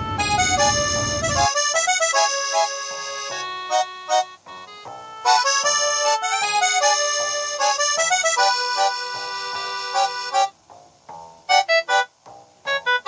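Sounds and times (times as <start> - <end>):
melody over held chords: 0.0 - 13.0
short detached notes: 0.0 - 13.0.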